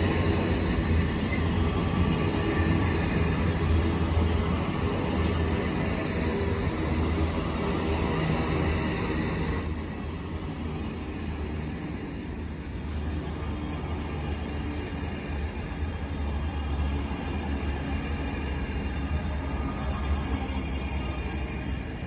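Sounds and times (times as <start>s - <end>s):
high-pitched whine: 0.0s - 22.0s
train wheels rumbling on rail: 0.0s - 22.0s.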